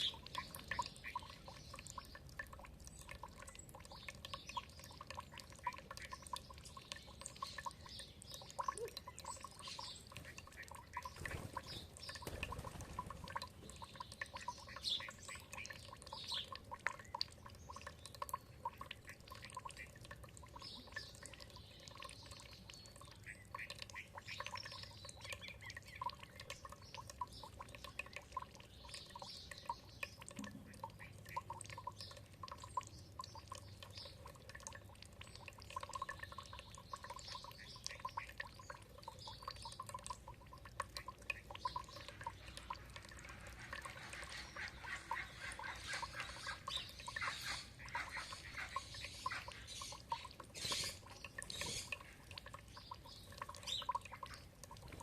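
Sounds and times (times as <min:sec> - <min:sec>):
birds chirping: 0:00.0 - 0:55.0
water dripping and trickling: 0:00.0 - 0:55.0.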